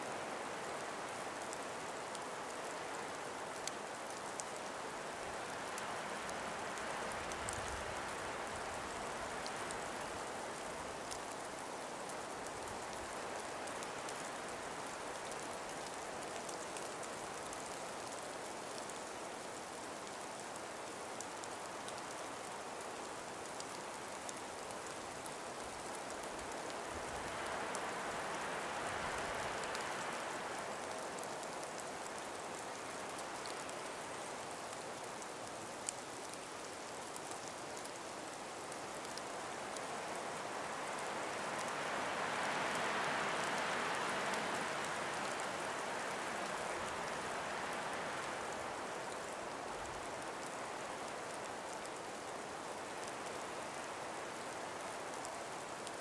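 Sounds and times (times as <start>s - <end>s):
breeze through trees: 0.0s - 56.0s.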